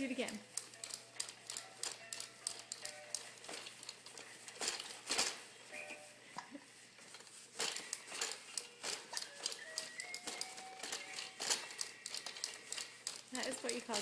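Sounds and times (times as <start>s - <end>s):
plastic toy clicking and rattling: 0.0s - 5.5s, 7.1s - 14.0s.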